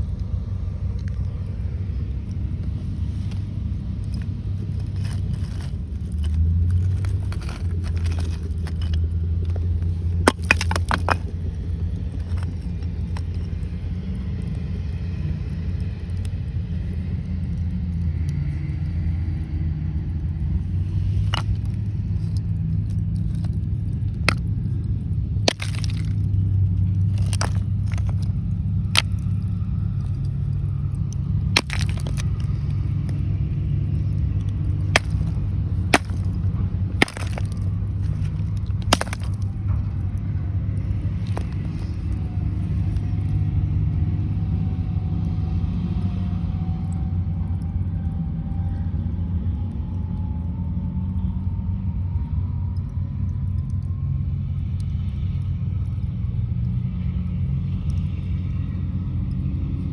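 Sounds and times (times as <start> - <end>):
coal cracking and popping: 0.0 - 45.4, 52.8 - 59.9
low rumble: 0.0 - 53.8.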